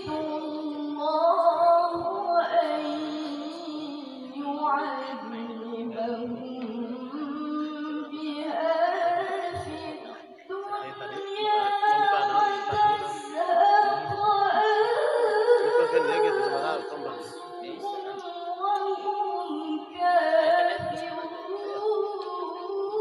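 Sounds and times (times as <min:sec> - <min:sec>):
woman chanting melodic recitation: 0:00.0 - 0:23.0.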